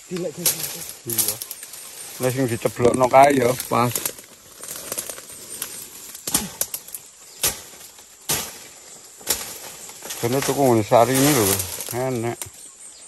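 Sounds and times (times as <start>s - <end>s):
leaves rustling and swishing: 0.0s - 12.8s
branches swishing: 0.3s - 12.5s.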